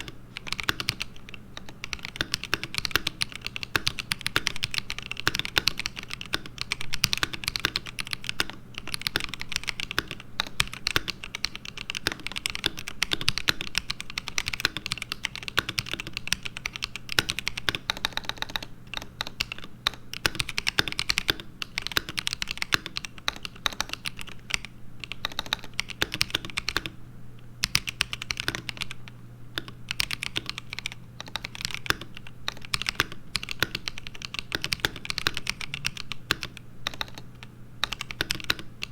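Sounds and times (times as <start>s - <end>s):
mechanical keyboard typing: 0.0s - 27.0s, 27.6s - 38.9s.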